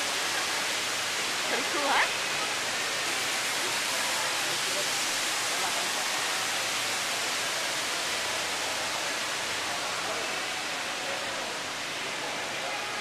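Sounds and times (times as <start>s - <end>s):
water falling down water wall: 0.0s - 13.0s.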